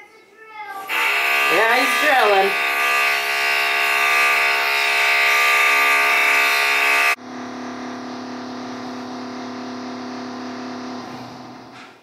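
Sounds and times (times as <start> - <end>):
electric drill whine: 0.8 - 11.8.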